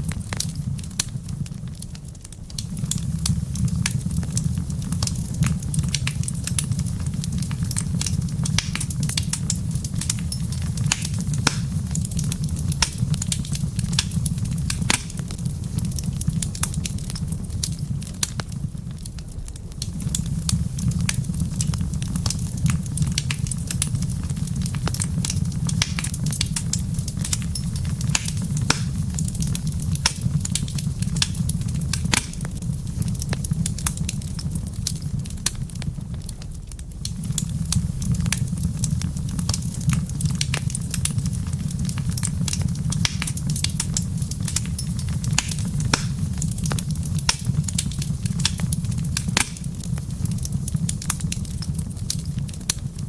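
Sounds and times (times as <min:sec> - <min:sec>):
fire low rumble: 0:00.0 - 0:53.0
wood fire crackling and popping: 0:00.0 - 0:53.0.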